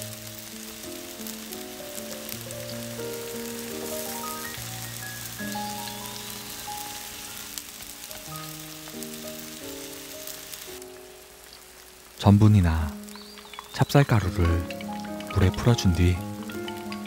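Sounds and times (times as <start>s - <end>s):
food sizzling in a pot: 0.0s - 17.0s
soft background music: 0.0s - 17.0s.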